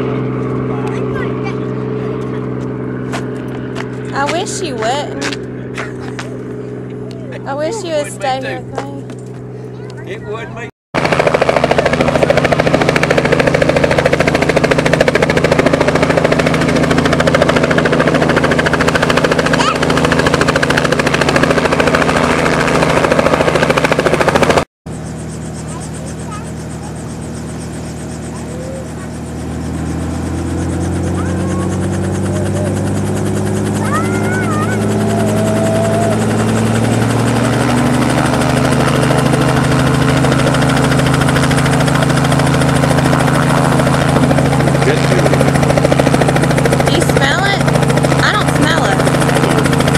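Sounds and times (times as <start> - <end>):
helicopter rotor chop: 0.0 - 49.9
piston engine hum: 0.0 - 49.9.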